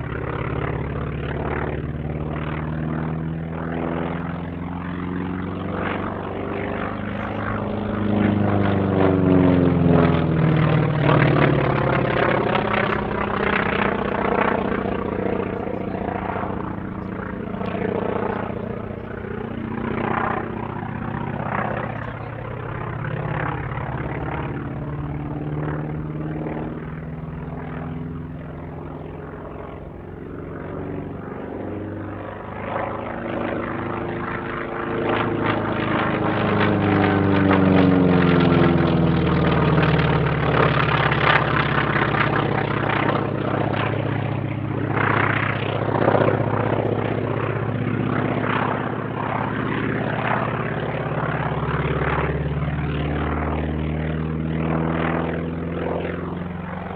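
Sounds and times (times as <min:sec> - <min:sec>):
propeller aircraft passing by: 0:00.0 - 0:56.9.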